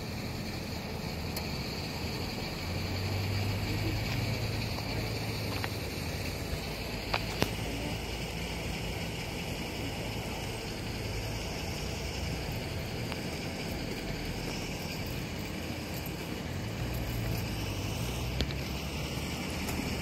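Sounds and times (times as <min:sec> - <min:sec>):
low engine-like hum: 0:00.0 - 0:20.0
street noise: 0:00.0 - 0:20.0.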